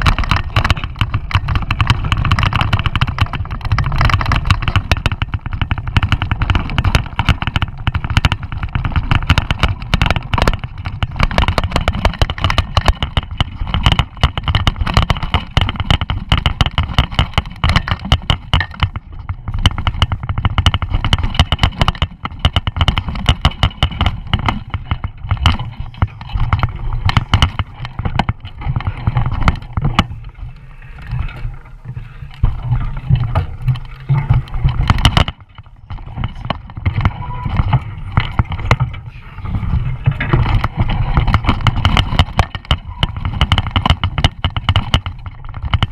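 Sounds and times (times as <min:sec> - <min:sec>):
bike rattling and knocking: 0:00.0 - 0:45.9
tyres and wind rumble: 0:00.0 - 0:45.9.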